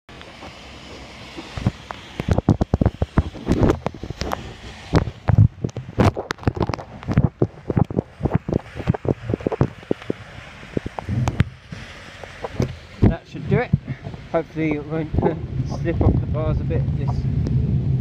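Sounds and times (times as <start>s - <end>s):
wind buffeting microphone: 1.4s - 18.0s.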